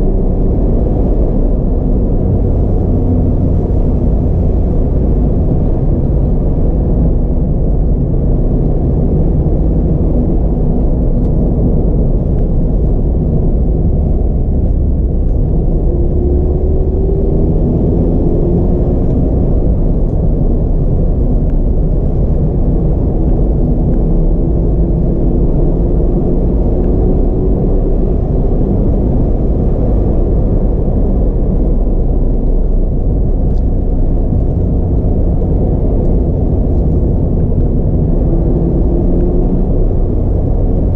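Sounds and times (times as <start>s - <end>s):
car engine inside car: 0.0s - 40.9s.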